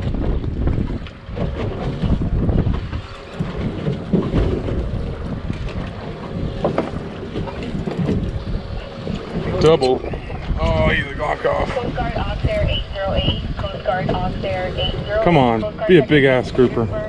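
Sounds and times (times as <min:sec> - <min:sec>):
sea water sloshing around boat: 0:00.0 - 0:17.0
wind buffeting microphone: 0:00.0 - 0:17.0.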